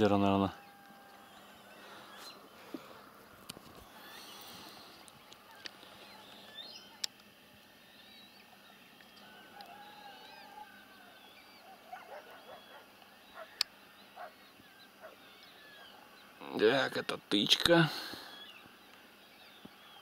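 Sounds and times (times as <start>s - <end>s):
small birds chirping: 0.0s - 20.0s
waterbirds calling: 0.0s - 20.0s.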